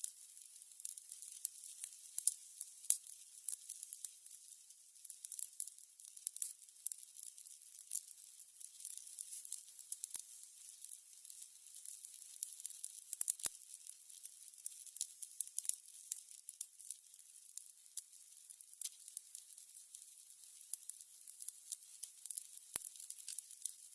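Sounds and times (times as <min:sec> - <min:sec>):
candles crackling: 0:00.0 - 0:17.2, 0:17.9 - 0:23.9.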